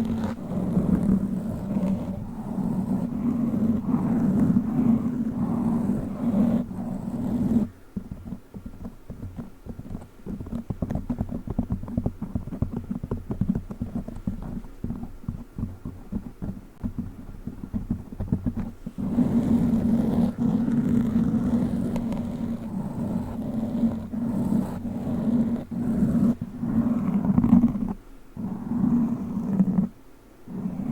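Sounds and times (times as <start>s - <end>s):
fingernail scratching microphone cover: 0.0s - 30.9s.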